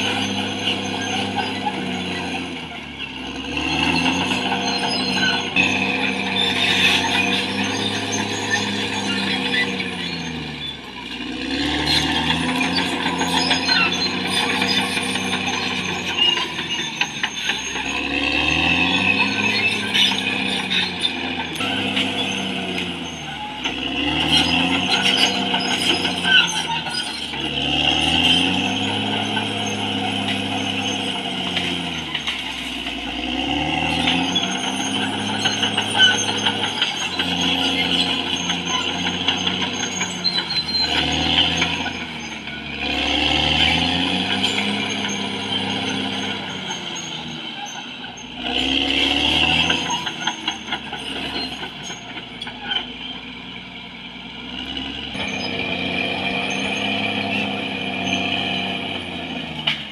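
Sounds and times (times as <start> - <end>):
bulldozer diesel engine surging: 0.0 - 59.9
steel tracks clanking and squealing: 0.0 - 59.9.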